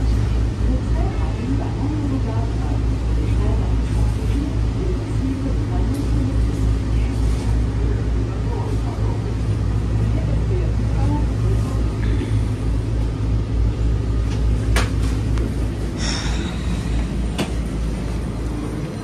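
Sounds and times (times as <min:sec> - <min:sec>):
people-mover car rumble: 0:00.0 - 0:19.0.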